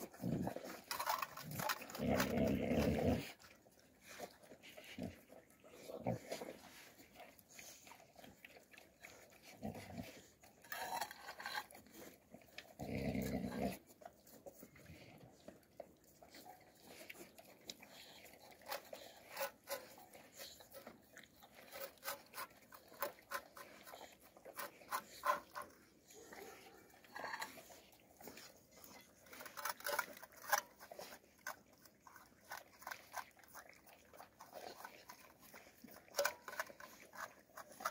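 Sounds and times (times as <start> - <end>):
puppies licking and chewing: 0.0 - 37.9.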